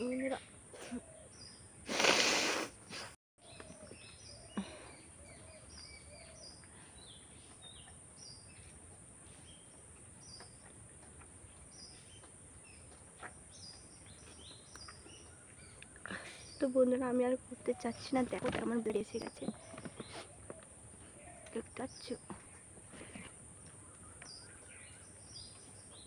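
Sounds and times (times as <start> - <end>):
birds chirping: 0.0 - 2.2, 3.4 - 26.0
outdoor background noise: 0.0 - 26.0.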